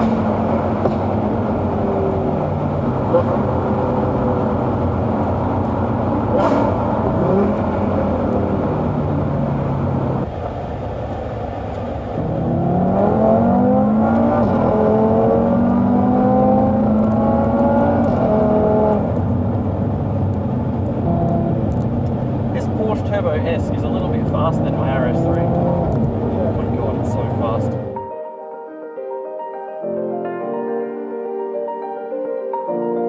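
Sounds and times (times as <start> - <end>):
car engine accelerating hard: 0.0 - 28.1.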